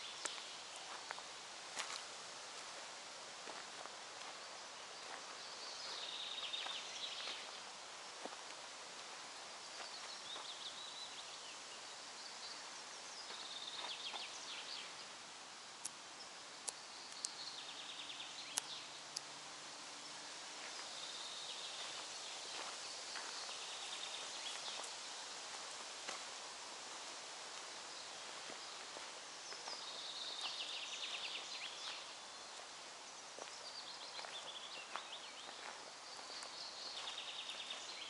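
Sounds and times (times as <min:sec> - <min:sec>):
soft hiss of air and leaves: 0:00.0 - 0:38.0
songbirds trilling and chirping: 0:00.0 - 0:38.0.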